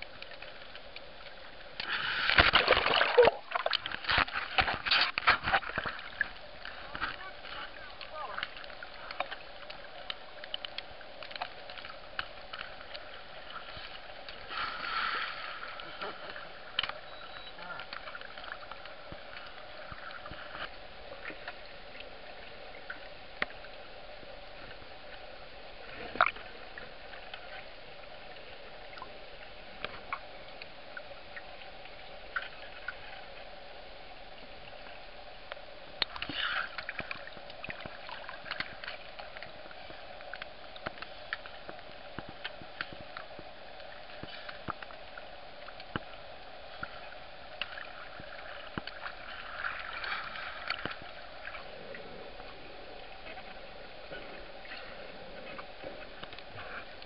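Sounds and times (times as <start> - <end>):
seawater gurgling and sloshing: 0.0 - 57.0
steady hiss: 3.4 - 57.0.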